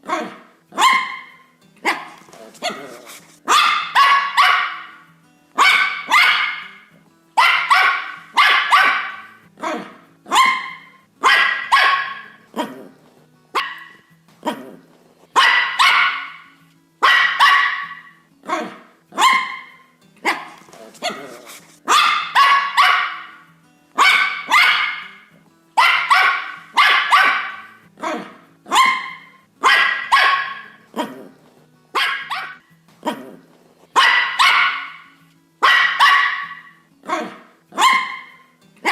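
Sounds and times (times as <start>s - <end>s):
dog barking with echo: 0.0s - 5.0s, 5.6s - 6.8s, 7.4s - 12.4s, 13.6s - 14.0s, 15.4s - 21.3s, 21.9s - 23.4s, 24.0s - 25.2s, 25.8s - 31.2s, 32.0s - 32.6s, 34.0s - 38.9s.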